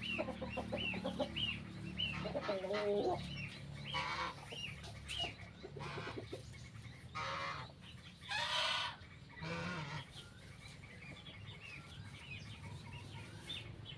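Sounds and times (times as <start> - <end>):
poultry harsh calls: 0.0 - 13.9.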